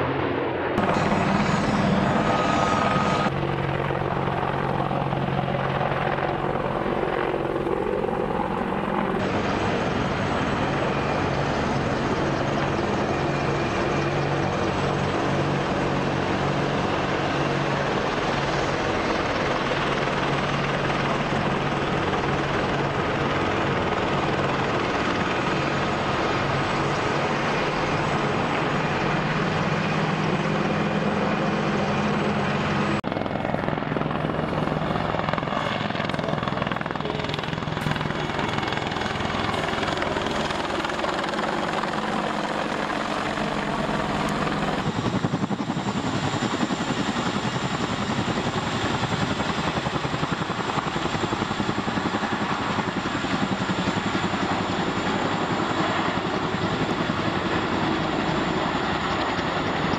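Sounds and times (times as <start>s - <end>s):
helicopter rotor and turbine whine: 0.0s - 59.9s
tandem-rotor helicopters beating: 0.0s - 59.9s.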